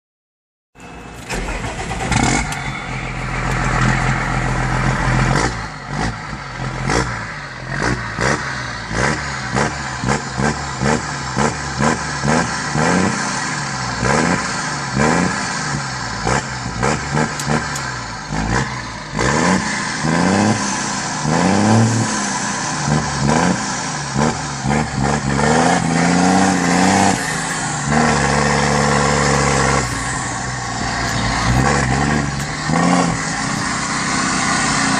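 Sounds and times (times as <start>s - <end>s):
tractor diesel engine revving: 1.1s - 34.9s.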